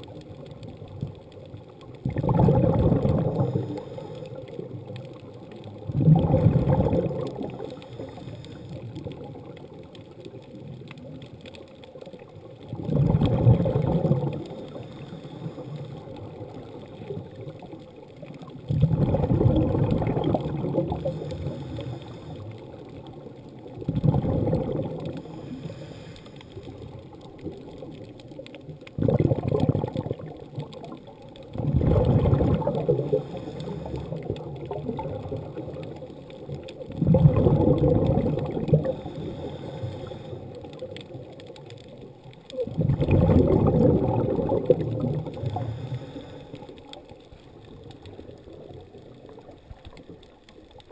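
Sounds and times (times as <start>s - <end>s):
underwater exhaust bubbles gurgling: 0.0s - 50.9s.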